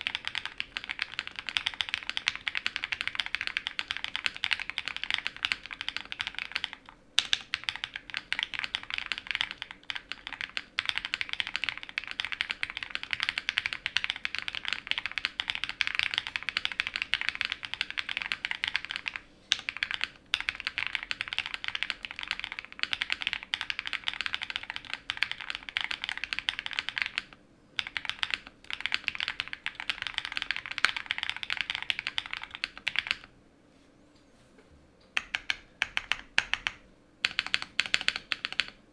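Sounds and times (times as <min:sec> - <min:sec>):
fast typing on mechanical keyboard: 0:00.0 - 0:33.3, 0:35.2 - 0:38.8.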